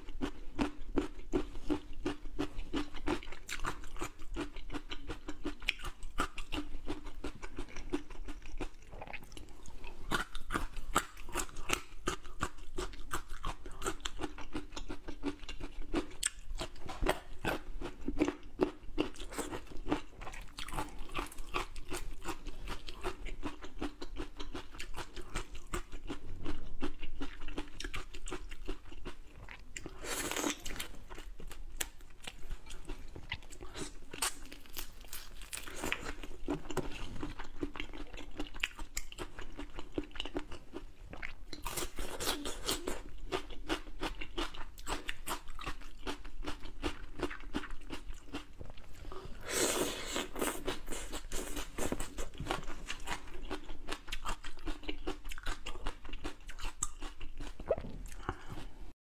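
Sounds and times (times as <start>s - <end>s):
wet chewing and crunching: 0.0s - 58.8s.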